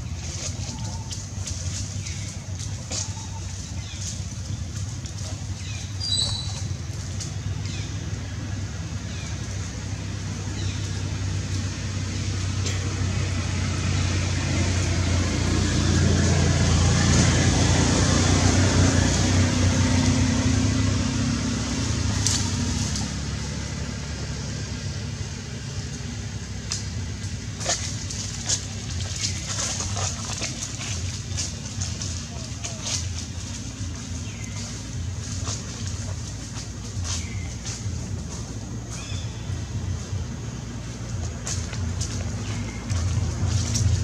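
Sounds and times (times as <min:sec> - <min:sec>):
dry leaves crackling underfoot: 0:00.0 - 0:44.0
vehicle engine humming past: 0:00.0 - 0:44.0.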